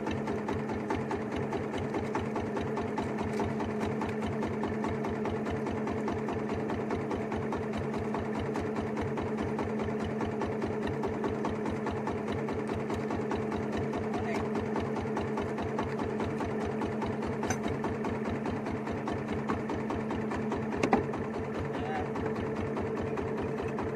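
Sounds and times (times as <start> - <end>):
boat engine running: 0.0 - 23.9.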